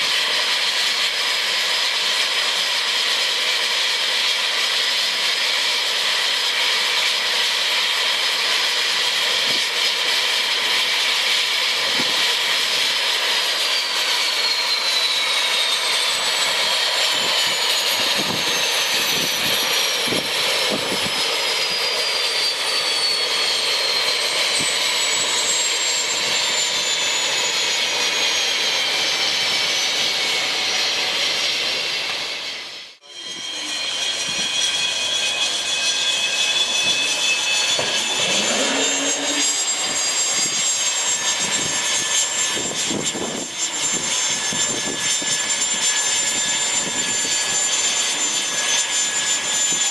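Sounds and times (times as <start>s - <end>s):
turbofan engines whining: 0.0s - 49.9s.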